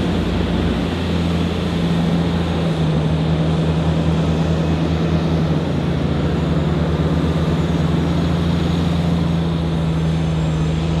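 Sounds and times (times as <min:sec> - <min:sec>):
diesel engines low hum: 0:00.0 - 0:11.0.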